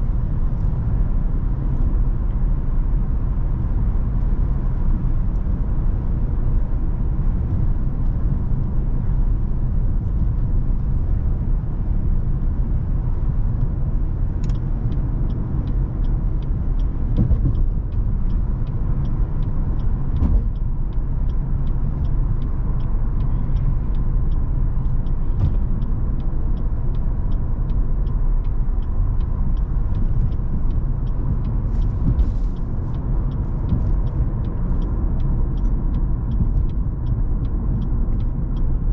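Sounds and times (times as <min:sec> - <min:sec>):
car engine and road noise: 0:00.0 - 0:38.9
light regular ticking: 0:03.4 - 0:38.9.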